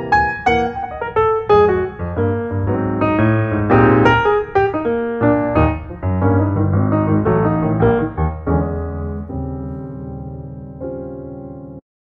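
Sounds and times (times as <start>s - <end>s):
piano music: 0.0s - 11.8s.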